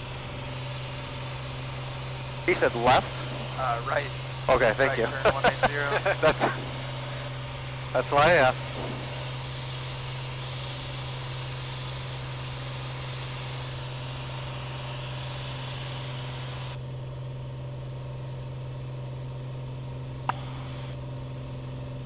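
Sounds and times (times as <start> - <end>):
aircraft engine and propeller drone: 0.0 - 22.0.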